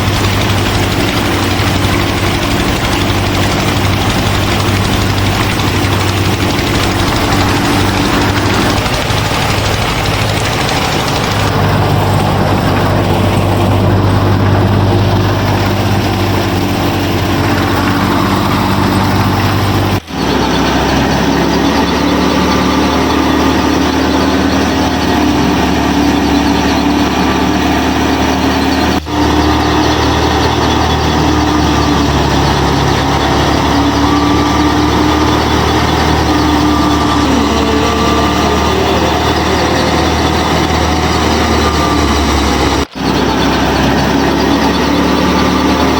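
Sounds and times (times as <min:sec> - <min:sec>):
engine-like running hum: 0:00.0 - 0:45.9.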